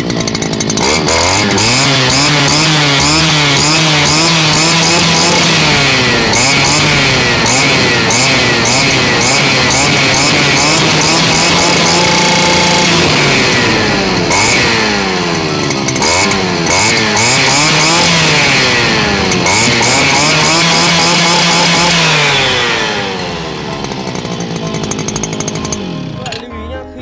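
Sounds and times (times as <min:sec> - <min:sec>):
brushcutter engine revving: 0:00.0 - 0:26.5.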